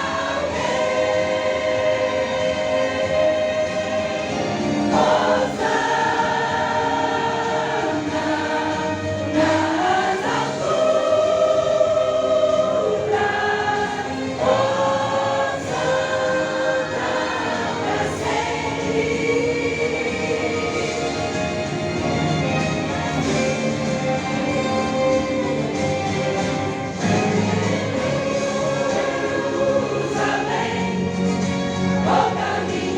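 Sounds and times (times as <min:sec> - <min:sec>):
choir singing a hymn: 0:00.0 - 0:32.9.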